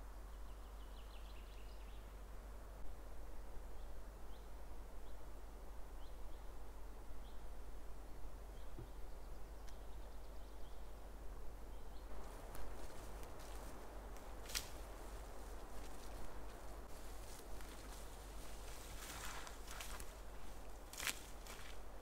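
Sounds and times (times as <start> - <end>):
forest background hiss: 0.0 - 22.0.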